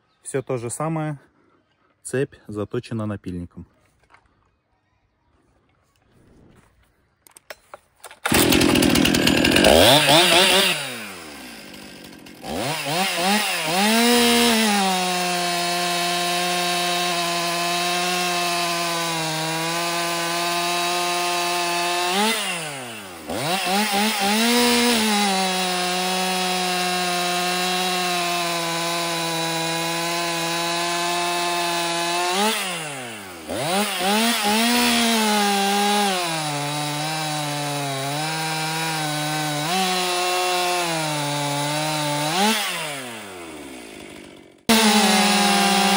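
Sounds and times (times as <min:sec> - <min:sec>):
chainsaw revving and cutting log: 0:08.1 - 0:45.9.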